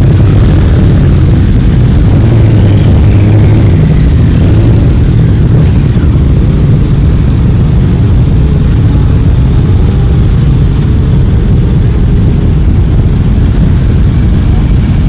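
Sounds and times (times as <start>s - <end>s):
group of motorcycle engines rumbling: 0.0s - 15.0s
motorcycles revving: 0.0s - 15.0s.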